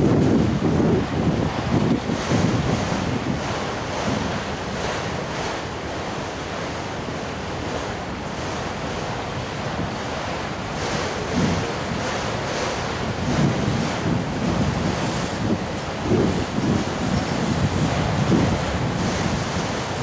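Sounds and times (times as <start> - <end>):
steel wheels rushing on rail: 0.0 - 20.0.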